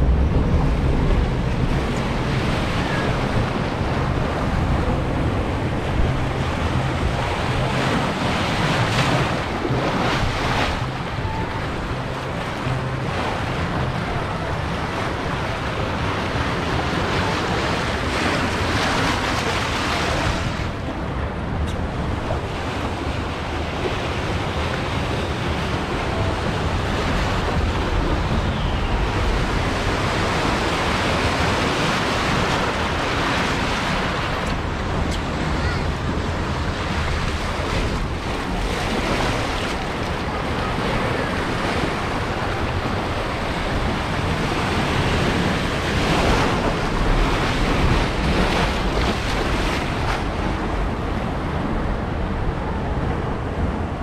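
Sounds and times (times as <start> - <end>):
rushing churning water: 0.0 - 54.0
wind buffeting microphone: 0.0 - 54.0.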